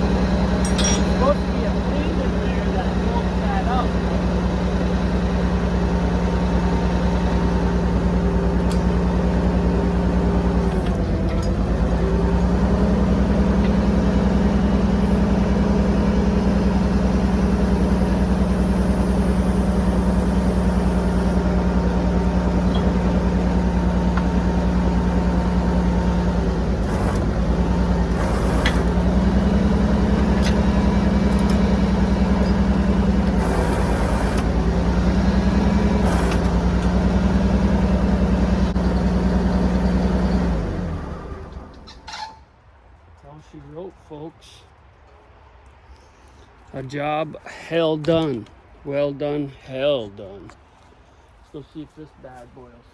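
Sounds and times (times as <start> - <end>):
engine running: 0.0 - 42.4.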